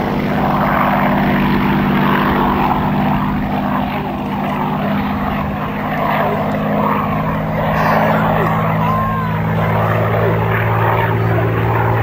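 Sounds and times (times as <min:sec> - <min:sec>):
propeller plane engine flying by: 0:00.0 - 0:12.0.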